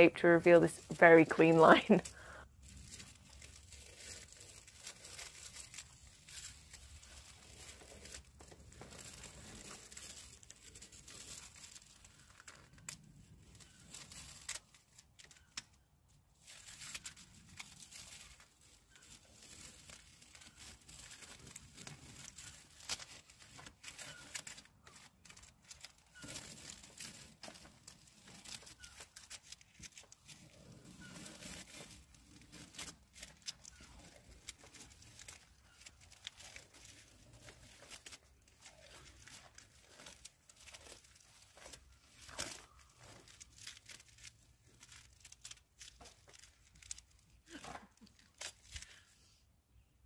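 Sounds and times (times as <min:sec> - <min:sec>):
tape peeling off paint: 0:00.4 - 0:49.0.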